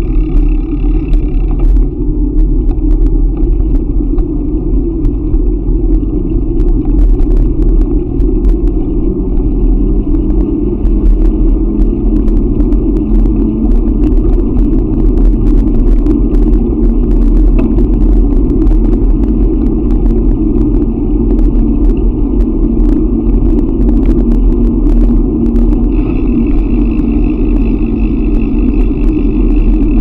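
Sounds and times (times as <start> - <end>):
bicycle clicks and rattles: 0.0 - 30.0
wind and road noise: 0.0 - 30.0.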